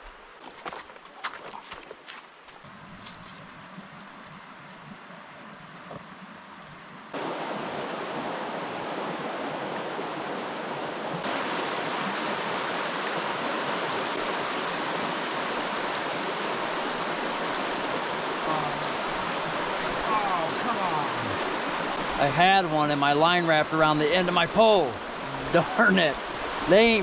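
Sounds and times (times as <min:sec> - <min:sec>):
rushing stream water: 0:00.0 - 0:27.0.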